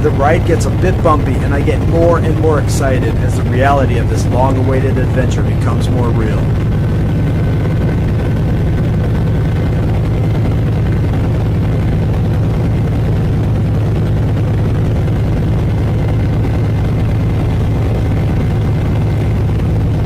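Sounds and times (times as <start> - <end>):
aircraft engines and propellers droning: 0.0 - 20.0.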